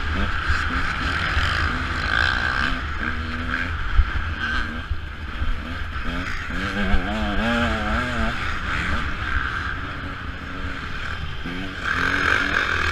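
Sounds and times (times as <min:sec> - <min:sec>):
low wind rumble: 0:00.0 - 0:12.9
motocross bike engine: 0:00.0 - 0:12.9.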